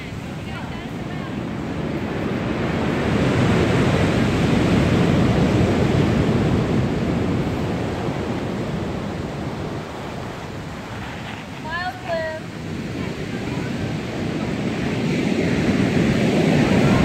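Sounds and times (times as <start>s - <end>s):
surf on a beach: 0.0s - 17.0s
wind buffeting microphone: 0.0s - 17.0s.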